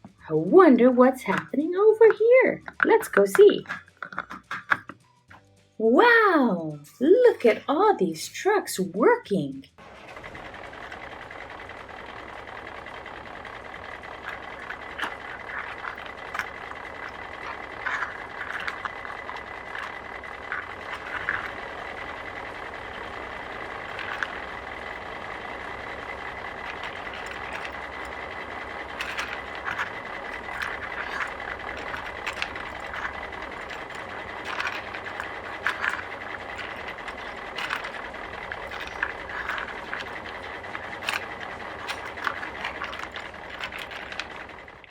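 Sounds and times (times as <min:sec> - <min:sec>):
machinery engines running: 0:00.0 - 0:44.9
clanks and knocks: 0:01.1 - 0:05.4, 0:09.8 - 0:44.9.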